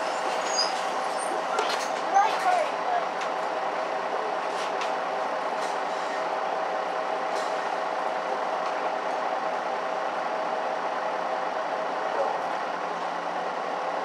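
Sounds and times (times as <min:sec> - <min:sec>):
bus engine hum: 0:00.0 - 0:14.0.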